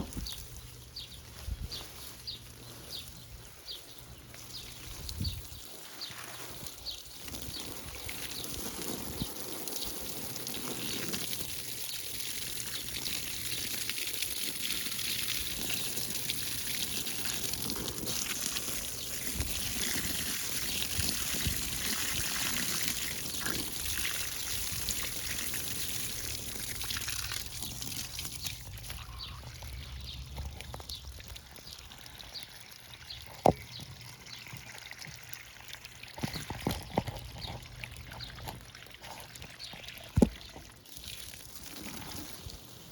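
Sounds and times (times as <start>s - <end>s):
water pouring: 4.6s - 42.9s.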